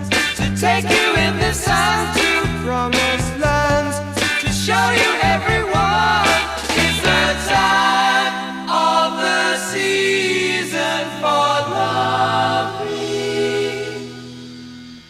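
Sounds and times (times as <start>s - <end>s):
layered vocal harmonies: 0.0s - 3.4s, 4.3s - 15.0s.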